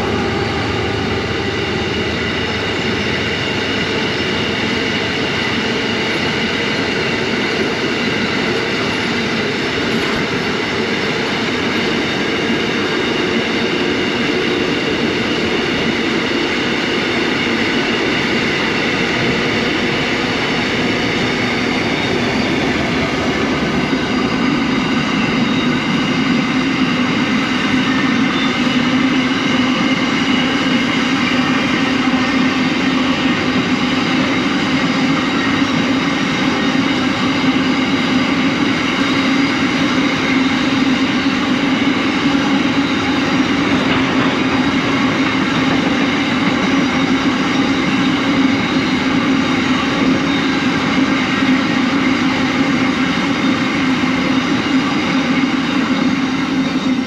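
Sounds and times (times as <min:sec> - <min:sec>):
freight train wheels on rail: 0:00.0 - 0:57.0.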